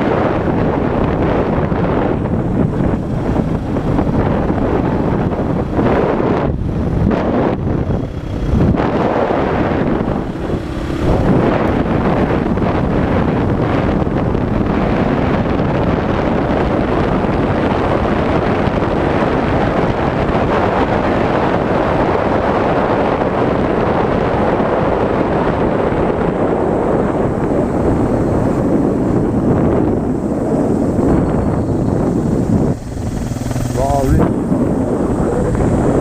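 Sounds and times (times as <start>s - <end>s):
motorcycle engine: 0.0s - 36.0s
road noise: 0.0s - 36.0s
wind buffeting microphone: 0.0s - 36.0s.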